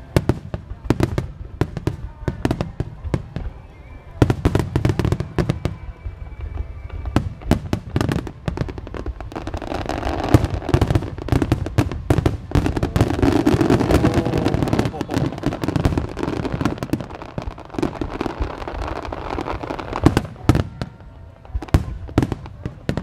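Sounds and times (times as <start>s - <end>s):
fireworks crackle: 0.0s - 23.0s.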